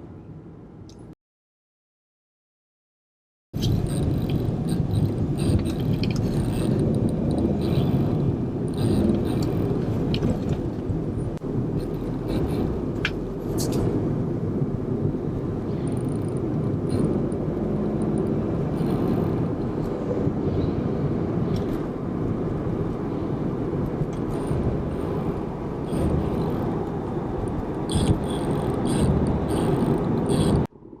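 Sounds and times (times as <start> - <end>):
road and engine noise in car: 0.0 - 1.2, 3.6 - 31.0.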